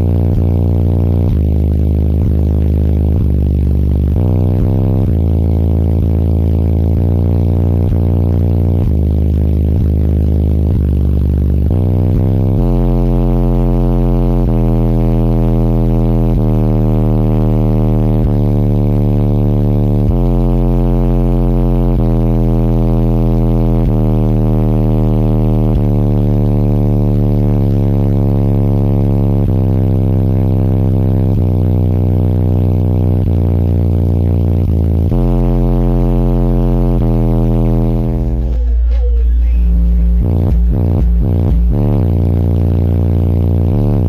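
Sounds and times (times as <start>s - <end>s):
deep bass music from subwoofers: 0.0s - 44.0s.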